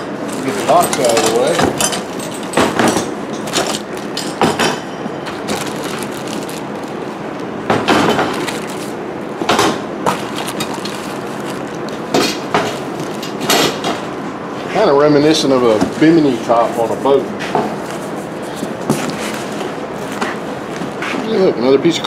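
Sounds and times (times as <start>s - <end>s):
cardboard and plastic rustling: 0.0s - 14.1s, 15.4s - 21.5s.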